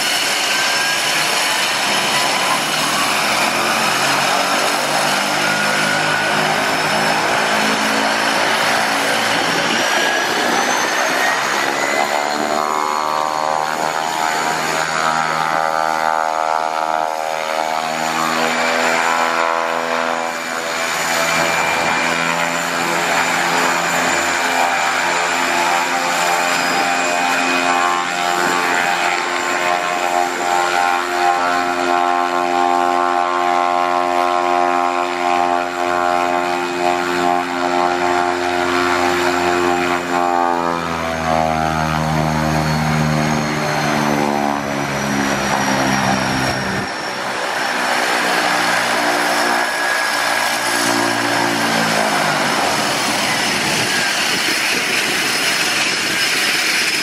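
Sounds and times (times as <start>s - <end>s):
propeller drone: 0.0s - 57.0s
turbine whine: 0.0s - 57.0s.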